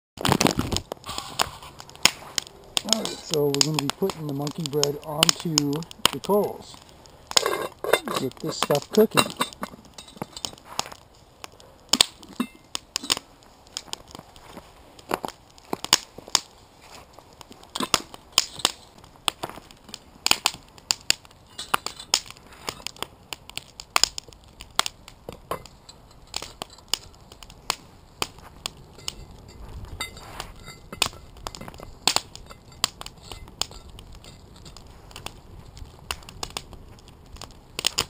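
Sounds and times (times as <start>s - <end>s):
charcoal clicking and crunching on metal: 0.2s - 38.0s.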